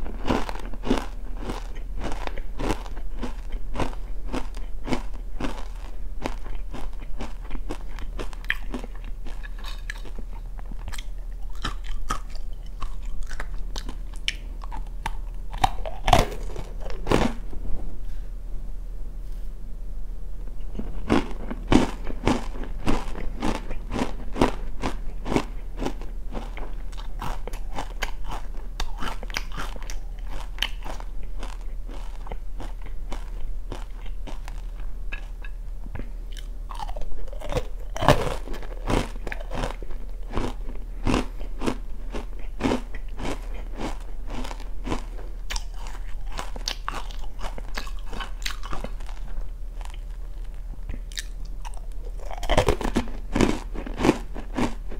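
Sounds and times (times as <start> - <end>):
crunching and chewing snack: 0.0 - 17.5, 20.6 - 54.9.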